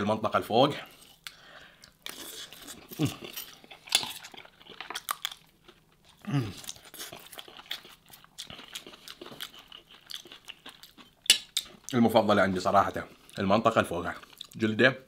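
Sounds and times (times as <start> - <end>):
crispy meat skin crunching: 1.9 - 14.7.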